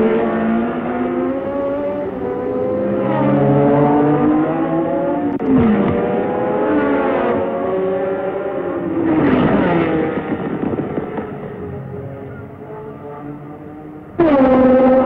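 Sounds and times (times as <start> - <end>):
race car passing close: 0.0 - 15.0
racing engines at high revs: 0.0 - 15.0.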